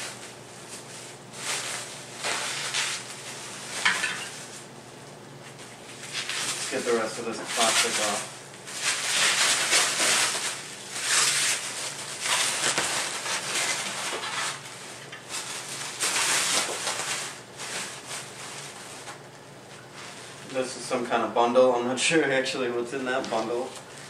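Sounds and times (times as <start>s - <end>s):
plastic wrap rustling: 0.0s - 4.7s, 5.4s - 21.2s, 22.8s - 24.0s.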